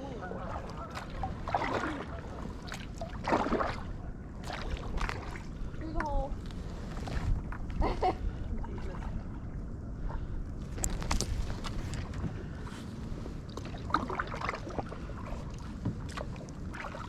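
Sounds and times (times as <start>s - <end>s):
paddle blades splashing water: 0.0s - 17.0s
wind rumble on microphone: 0.0s - 17.0s.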